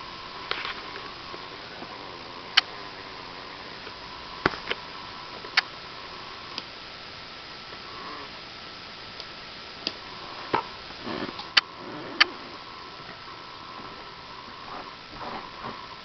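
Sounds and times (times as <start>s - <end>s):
faint hum: 0.0s - 16.0s
steady hiss: 0.0s - 16.0s.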